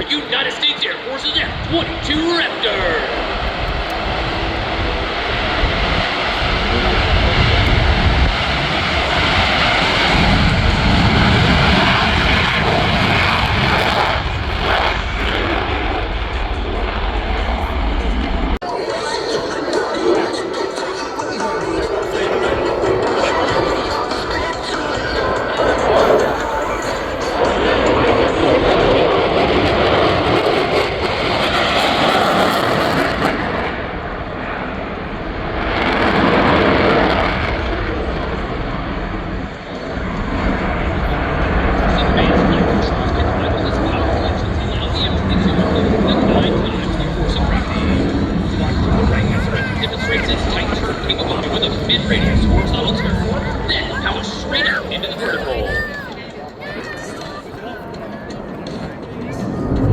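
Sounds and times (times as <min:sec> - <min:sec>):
fighter jet engines roaring: 0:00.0 - 0:59.9.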